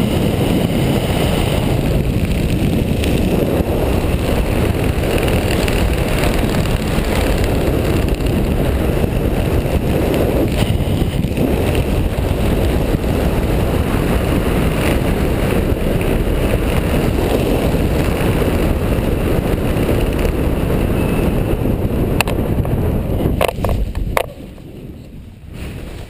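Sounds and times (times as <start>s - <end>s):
airflow rushing over microphone: 0.0s - 26.0s.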